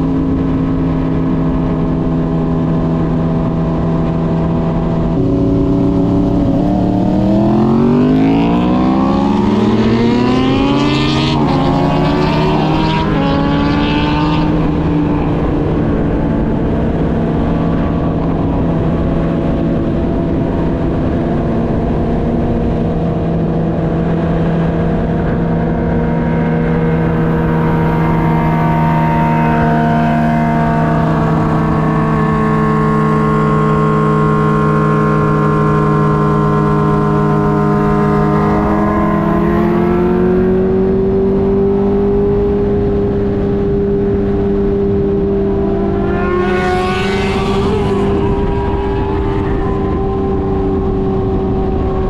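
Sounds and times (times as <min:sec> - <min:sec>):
car engine driving: 0:00.0 - 0:52.0.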